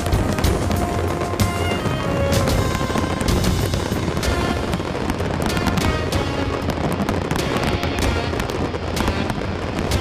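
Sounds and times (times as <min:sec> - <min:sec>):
fireworks booming: 0:00.0 - 0:10.0
fireworks cracking: 0:00.0 - 0:10.0
music: 0:00.0 - 0:10.0.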